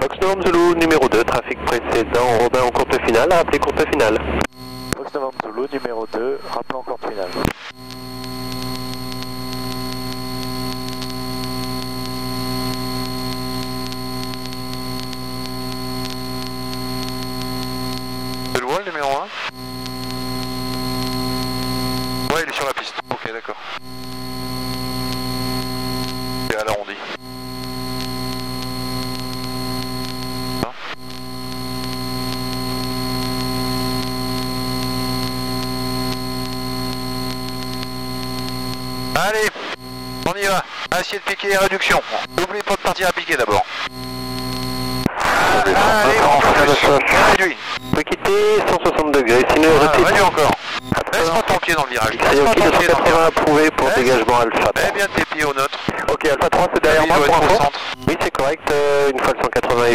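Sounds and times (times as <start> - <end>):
high whine: 0.0 - 59.9.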